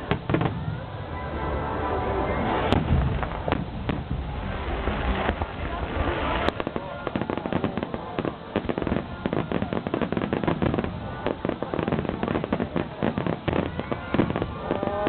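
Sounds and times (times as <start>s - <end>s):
fireworks bursting and crackling: 0.0s - 1.3s, 2.1s - 15.0s.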